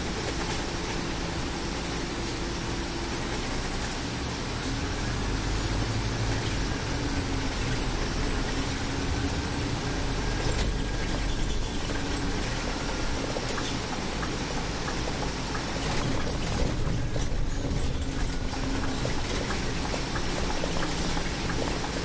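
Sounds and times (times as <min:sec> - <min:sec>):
bus engine hum: 0:00.0 - 0:22.0
road and tyre noise: 0:00.0 - 0:22.0.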